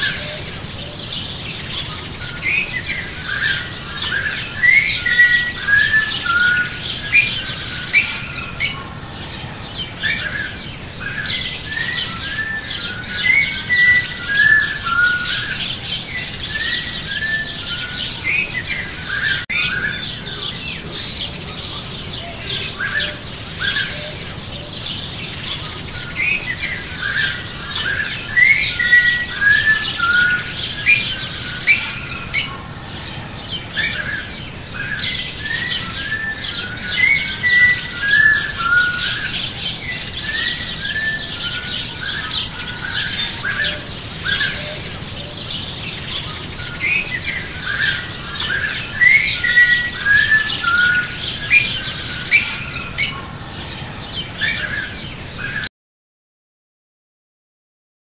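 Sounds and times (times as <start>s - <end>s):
small songbirds chirping: 0.0s - 55.7s.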